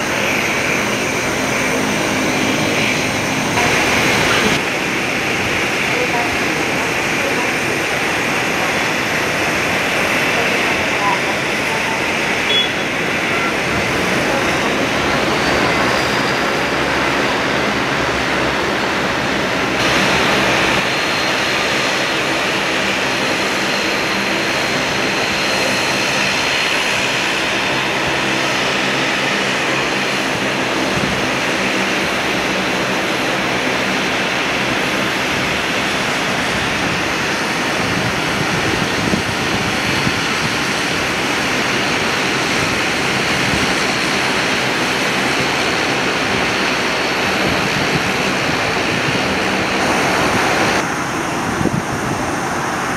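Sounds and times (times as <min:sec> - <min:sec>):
propeller drone: 0:00.0 - 0:52.9
turboprop engine whine: 0:00.0 - 0:52.9.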